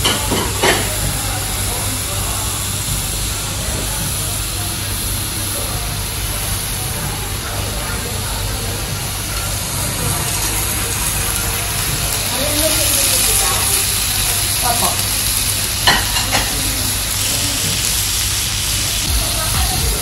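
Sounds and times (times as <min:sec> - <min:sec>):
meat sizzling on griddle: 0:00.0 - 0:20.0.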